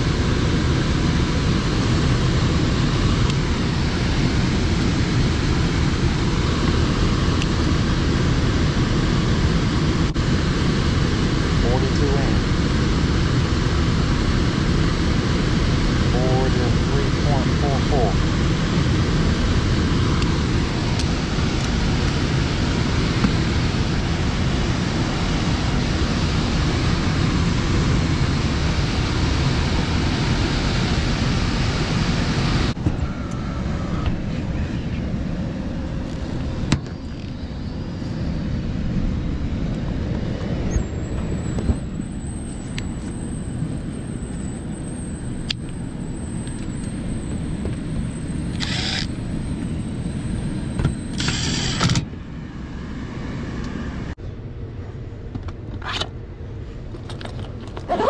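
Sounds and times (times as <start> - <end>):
air handler blower running: 0.0 - 54.2
thin high whine: 0.0 - 54.8.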